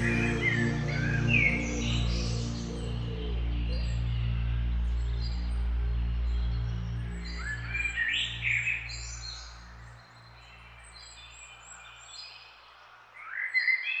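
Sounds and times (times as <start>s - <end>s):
low music drone: 0.0s - 11.6s.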